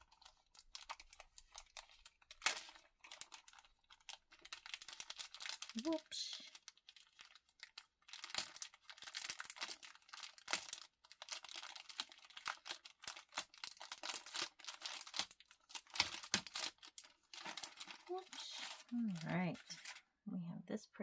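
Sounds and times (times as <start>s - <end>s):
packaging crinkling and rustling: 0.0s - 20.1s.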